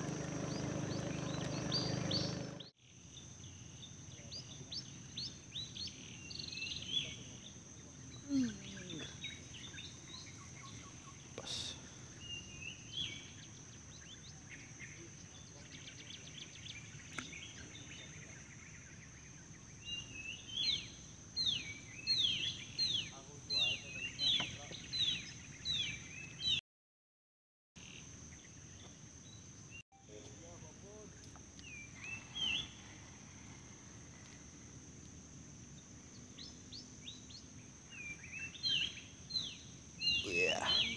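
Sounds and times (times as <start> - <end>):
birds chirping: 0.0 - 26.6, 30.4 - 33.5, 35.7 - 40.9.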